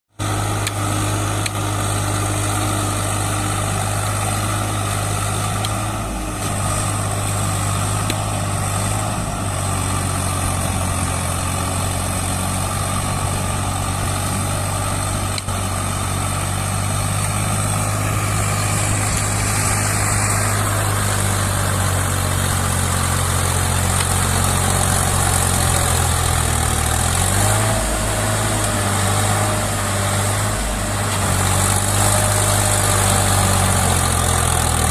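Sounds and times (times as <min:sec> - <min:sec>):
tractor diesel engine humming: 0:00.2 - 0:34.9.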